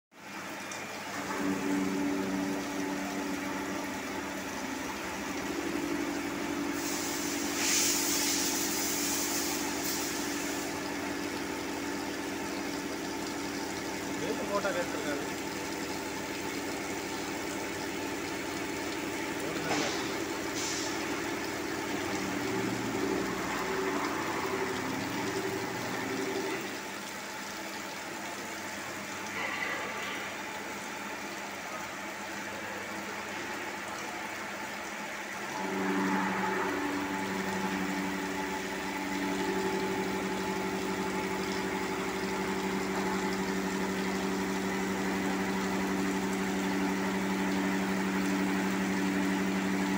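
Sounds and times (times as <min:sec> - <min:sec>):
coolant hiss: 0:00.2 - 0:49.9
milling machine hum: 0:00.2 - 0:49.9.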